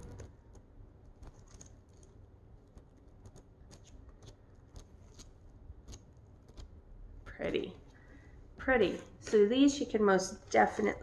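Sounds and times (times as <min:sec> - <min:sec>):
book pages flipping: 0:00.0 - 0:09.5.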